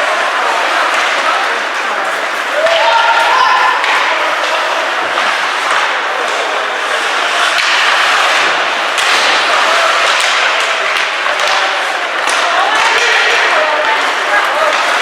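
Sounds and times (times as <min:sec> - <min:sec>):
steady hiss of rink noise: 0:00.0 - 0:15.0.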